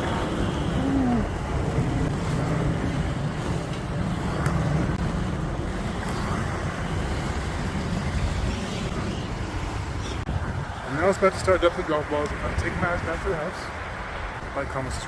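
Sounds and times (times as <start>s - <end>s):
skate wheels rolling on pavement: 0.0s - 15.0s
wind noise on microphone: 0.0s - 15.0s.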